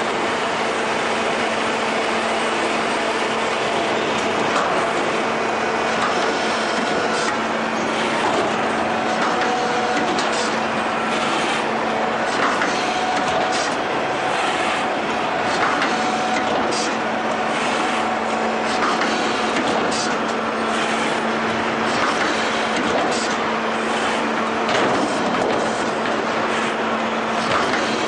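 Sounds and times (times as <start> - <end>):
constant hum: 0.0 - 28.0
machine rumble and clatter: 0.0 - 28.0.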